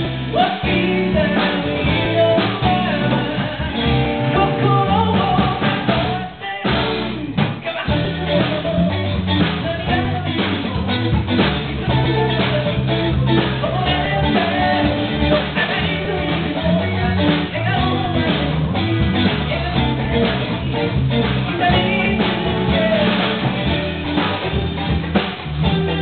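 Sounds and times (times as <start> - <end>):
person singing: 0.0 - 24.2, 25.6 - 26.0
drum kit beat: 0.0 - 26.0
electric guitars: 0.0 - 26.0.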